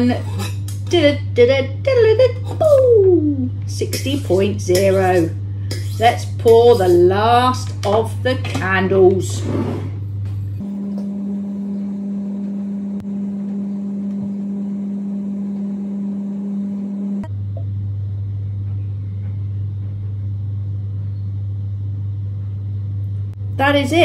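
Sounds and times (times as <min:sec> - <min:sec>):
low droning hum: 0:00.0 - 0:24.0.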